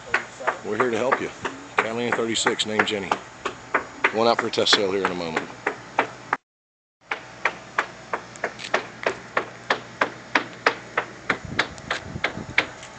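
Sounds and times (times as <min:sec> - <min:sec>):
sharp evenly spaced taps: 0:00.1 - 0:06.2, 0:07.0 - 0:12.7.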